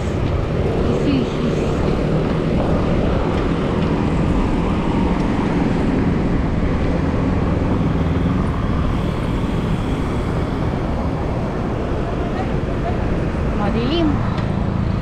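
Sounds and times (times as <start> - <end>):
road and traffic noise: 0.0 - 15.0
wind buffeting microphone: 0.0 - 15.0.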